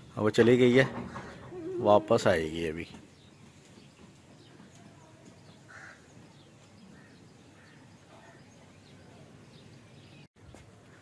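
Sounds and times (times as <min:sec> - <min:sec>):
faint outdoor ambience: 0:00.0 - 0:11.0
distant bird calls: 0:00.5 - 0:10.3.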